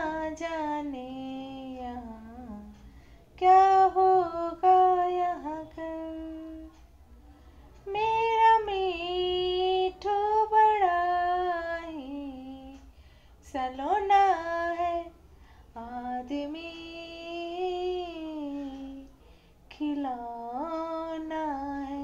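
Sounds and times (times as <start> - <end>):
woman singing unaccompanied: 0.0 - 6.9, 7.8 - 22.0.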